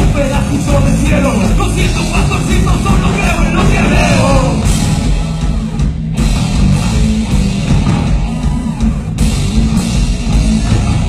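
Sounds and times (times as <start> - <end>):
drum kit: 0.0 - 11.0
electric guitar: 0.0 - 11.0.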